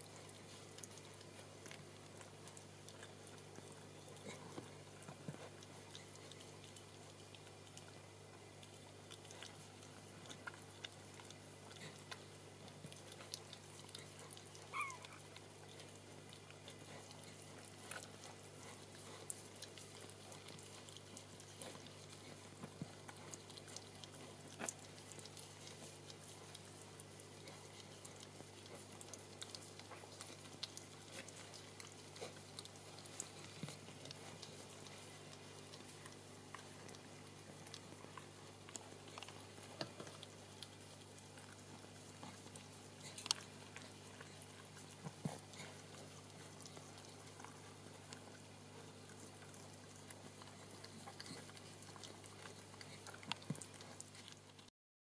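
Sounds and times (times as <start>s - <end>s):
dog licking puppy: 0.0s - 54.7s
steady low hum: 0.0s - 54.7s.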